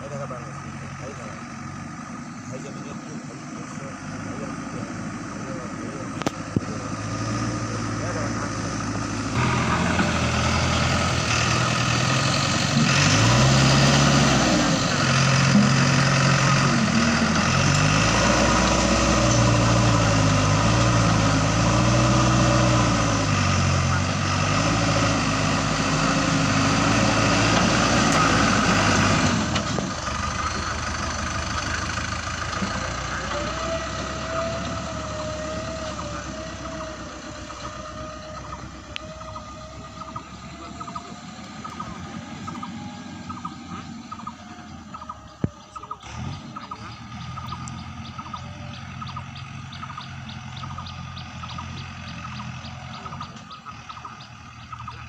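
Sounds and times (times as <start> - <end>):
diesel engine working: 0.0 - 55.0.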